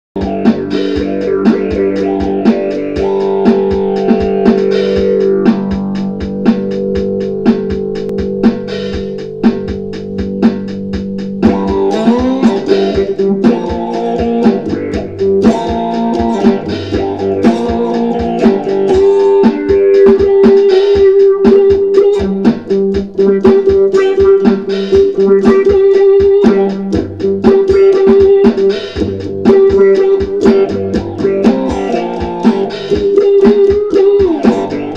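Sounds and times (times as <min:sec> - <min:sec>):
electric guitar funk riff with wah: 0:00.2 - 0:34.9.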